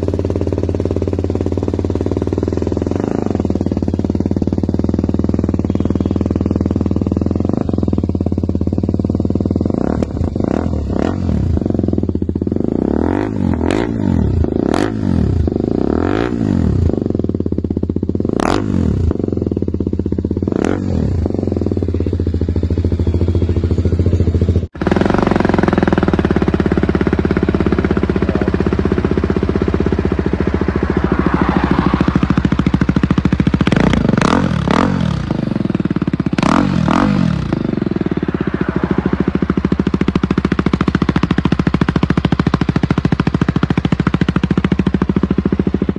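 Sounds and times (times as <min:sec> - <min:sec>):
motorcycle engine revving: 0:00.0 - 0:45.9
motorcycle idling: 0:00.0 - 0:45.9.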